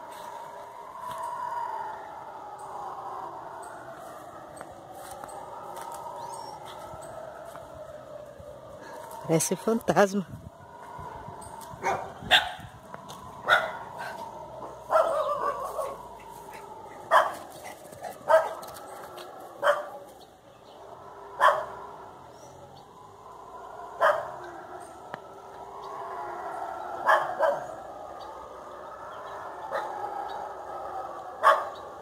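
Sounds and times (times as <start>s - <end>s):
monkeys roaring chorus: 0.0s - 32.0s.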